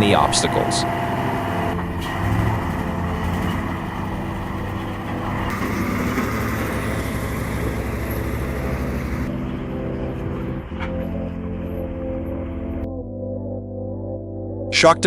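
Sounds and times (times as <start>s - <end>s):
truck engine running under load: 0.0s - 12.8s.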